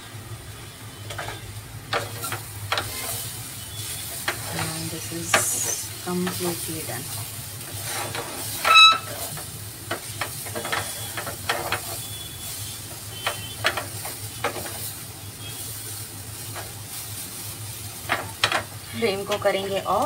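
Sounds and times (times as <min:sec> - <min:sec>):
filling sizzling in a pan: 0:00.0 - 0:20.0
wooden spatula scraping a pan: 0:01.0 - 0:20.0.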